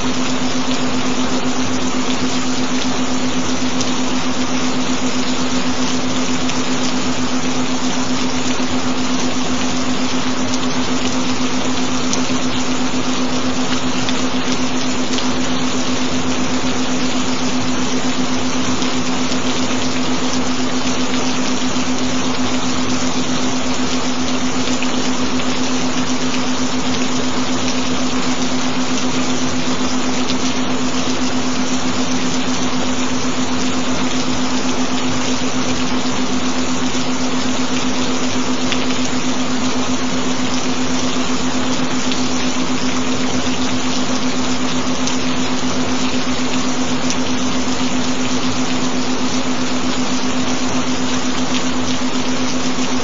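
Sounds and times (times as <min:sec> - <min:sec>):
rain hiss: 0:00.0 - 0:53.0.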